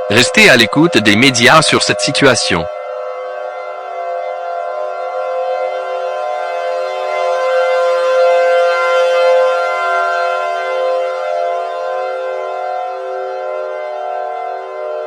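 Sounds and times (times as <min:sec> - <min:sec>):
civil defense siren wailing: 0:00.0 - 0:15.0.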